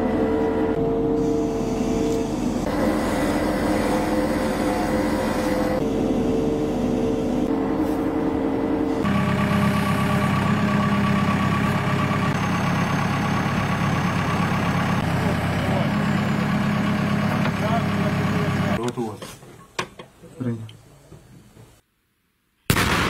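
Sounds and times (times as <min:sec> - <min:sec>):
excavator engine running: 0:00.0 - 0:19.6.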